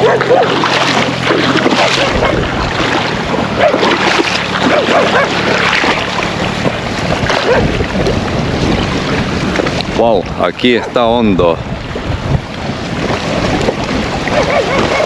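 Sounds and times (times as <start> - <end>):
river water rushing around rocks: 0.0 - 15.0
wind buffeting microphone: 0.0 - 15.0.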